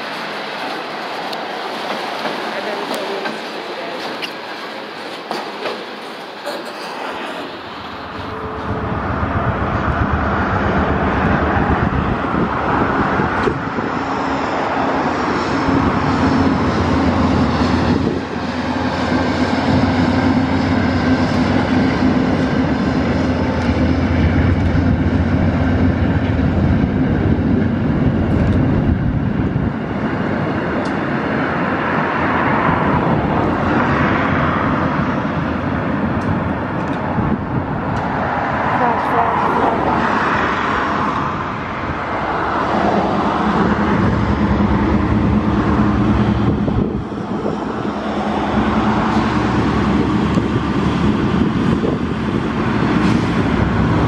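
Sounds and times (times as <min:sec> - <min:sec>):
diesel locomotive engine drone: 0:00.0 - 0:54.0
train cars rolling over bridge: 0:00.0 - 0:54.0.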